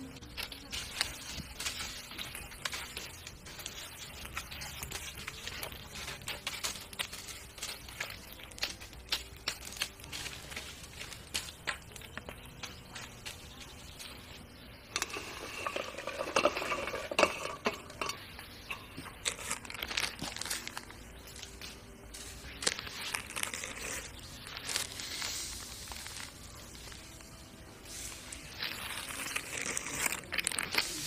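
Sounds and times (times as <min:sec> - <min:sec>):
crackly rustling: 0:00.0 - 0:31.0.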